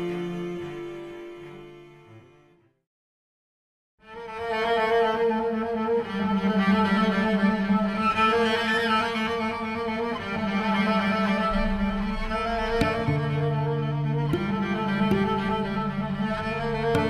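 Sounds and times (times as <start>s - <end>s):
bowed cello music: 0.0s - 2.8s, 4.0s - 17.0s.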